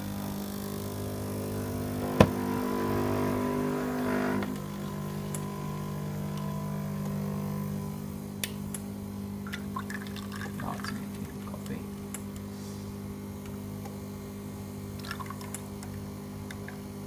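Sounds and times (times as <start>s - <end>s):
coffee machine pump humming: 0.0s - 17.0s.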